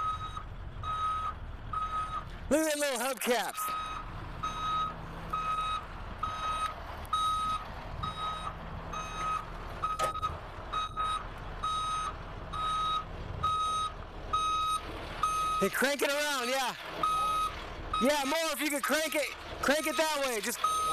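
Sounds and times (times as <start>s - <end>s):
back-up alarm beeping: 0.0s - 2.2s, 3.4s - 20.9s
truck engine low hum: 0.0s - 20.9s.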